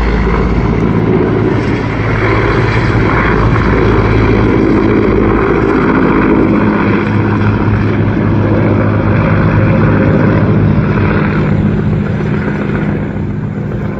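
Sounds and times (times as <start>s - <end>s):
helicopter rotor and turbine drone: 0.0s - 13.9s.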